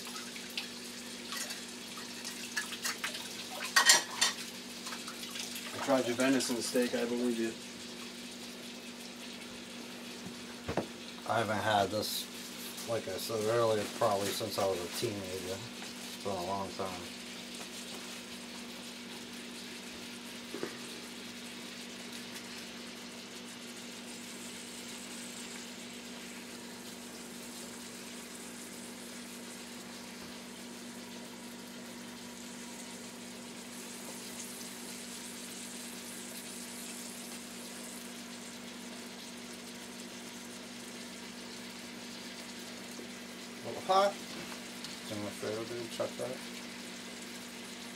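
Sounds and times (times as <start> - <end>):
meat sizzling in butter: 0.0 - 47.9.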